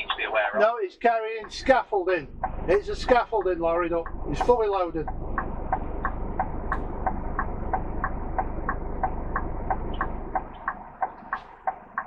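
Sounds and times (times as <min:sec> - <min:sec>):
flasher relay ticking: 0:01.3 - 0:12.0
engine idling hum: 0:01.4 - 0:12.0.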